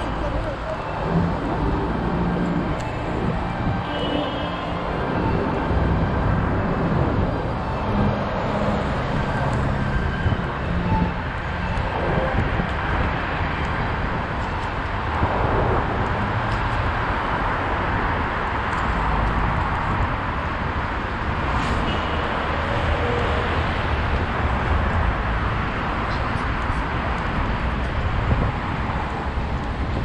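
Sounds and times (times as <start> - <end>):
wind on microphone: 0.0 - 22.0, 22.7 - 30.0
city traffic: 0.0 - 30.0.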